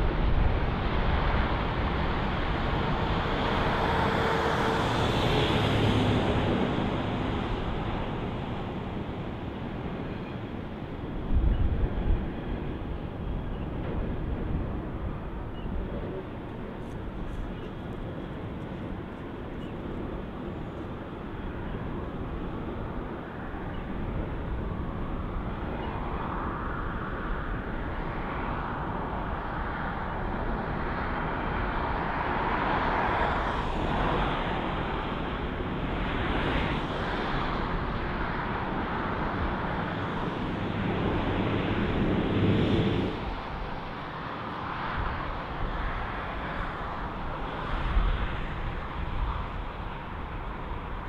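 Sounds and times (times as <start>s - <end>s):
distant locomotive engine drone: 0.0s - 51.0s
rolling train noise: 0.0s - 51.0s.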